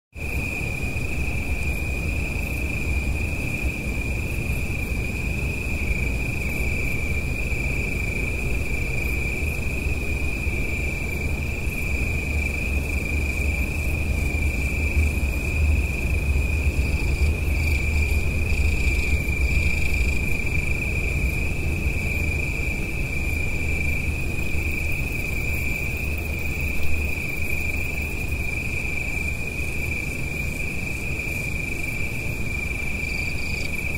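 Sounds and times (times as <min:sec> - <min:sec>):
distant road traffic rumble: 0:00.2 - 0:33.9
insects trilling: 0:00.2 - 0:33.9.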